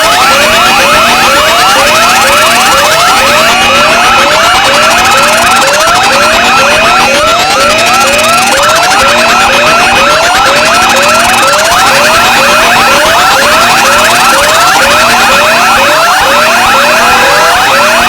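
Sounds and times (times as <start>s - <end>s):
electronic alarm and siren tones: 0.0s - 18.0s.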